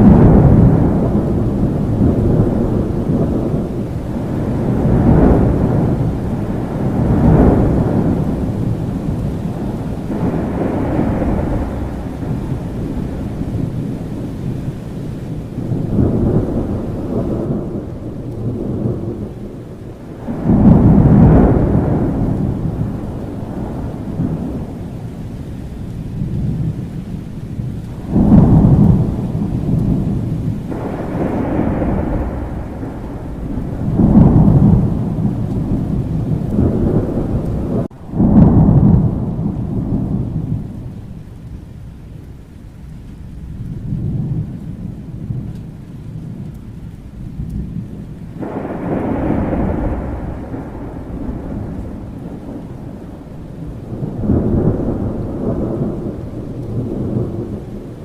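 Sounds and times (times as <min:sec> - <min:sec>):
rolling thunder: 0:00.0 - 0:58.0
steady rain: 0:00.0 - 0:58.0.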